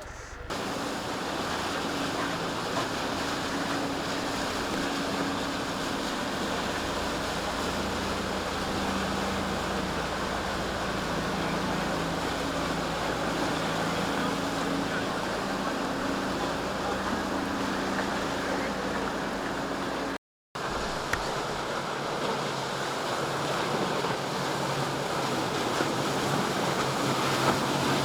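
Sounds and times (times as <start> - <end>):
boat engines humming: 0.0 - 28.0
surf washing: 0.0 - 28.0.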